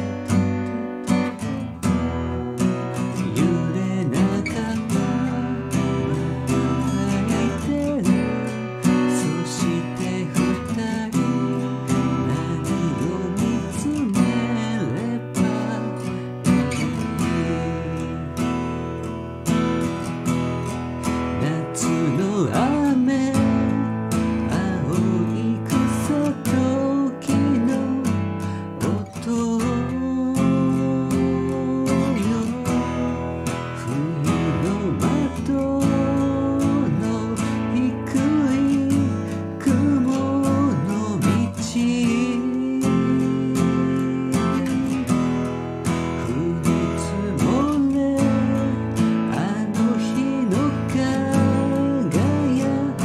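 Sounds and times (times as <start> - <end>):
acoustic guitar strumming: 0.0 - 53.0
person singing: 0.0 - 53.0.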